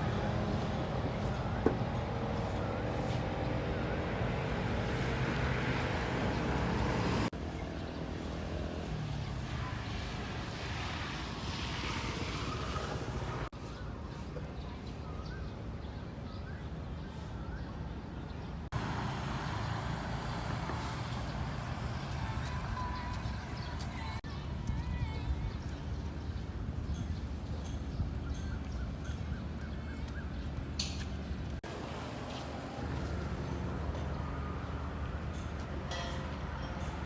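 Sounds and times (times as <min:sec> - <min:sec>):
engine hum: 0:00.0 - 0:13.6, 0:18.1 - 0:37.0
vehicles passing: 0:00.0 - 0:37.0.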